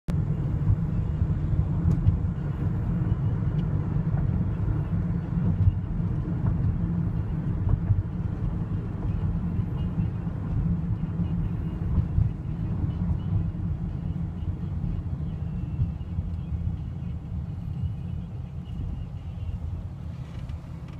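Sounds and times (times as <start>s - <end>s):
car interior rumble: 0.1s - 20.9s.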